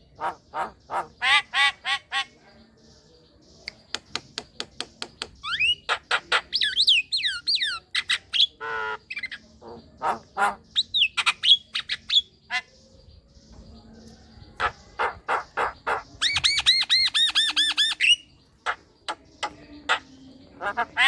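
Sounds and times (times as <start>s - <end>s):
bird singing: 0.0s - 21.0s.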